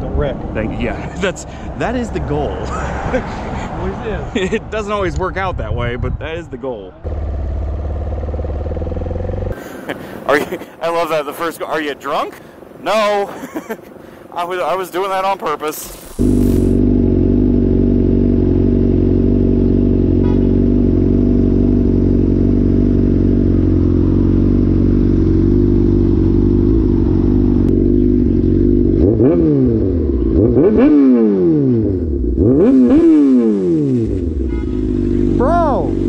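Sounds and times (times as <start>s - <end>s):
motorcycle engine idling and revving: 6.9s - 36.0s.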